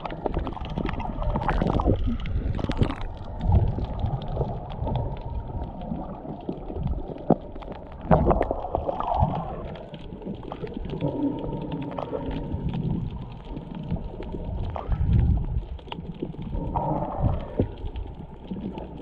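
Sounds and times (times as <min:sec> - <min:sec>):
faint clicks and crackles: 0:00.0 - 0:19.0
muffled underwater rumbling: 0:00.0 - 0:19.0.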